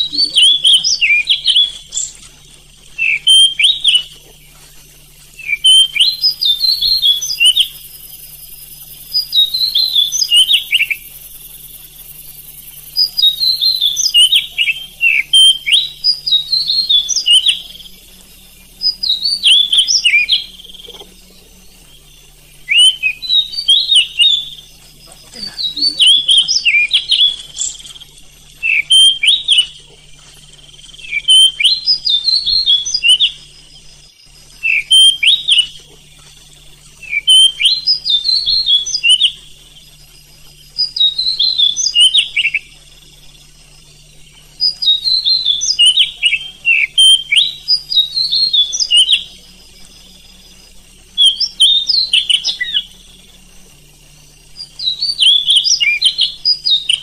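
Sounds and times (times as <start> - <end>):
bird whistling song: 0.0 - 57.0.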